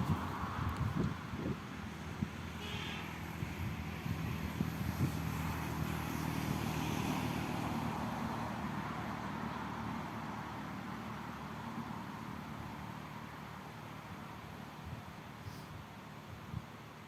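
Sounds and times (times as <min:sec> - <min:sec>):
vehicle noise: 0:00.0 - 0:17.0.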